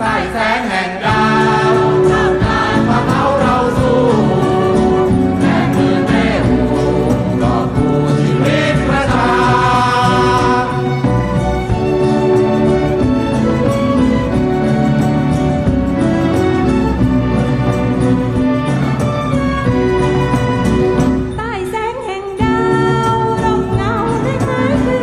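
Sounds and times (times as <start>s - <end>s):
choral music with bass: 0.0s - 21.5s, 22.4s - 25.0s.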